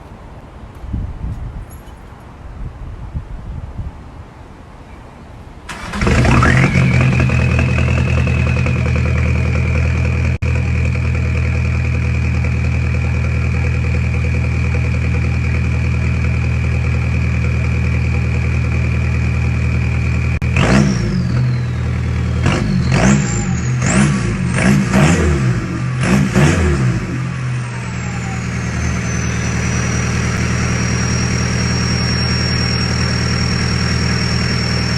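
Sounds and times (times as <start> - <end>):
diesel engine starting and idling: 5.7 - 34.9
engine revving with whistle: 5.7 - 34.9
high engine whine: 5.7 - 34.9.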